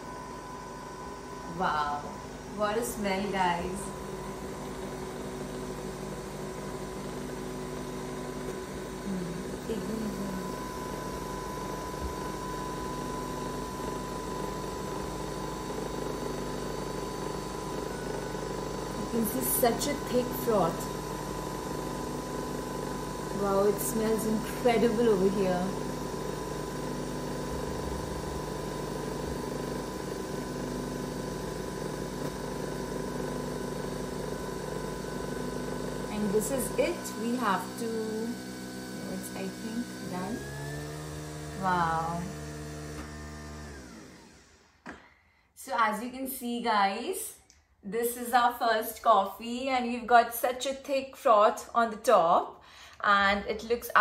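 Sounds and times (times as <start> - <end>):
coffee machine motor hum and whine: 0.0 - 44.9.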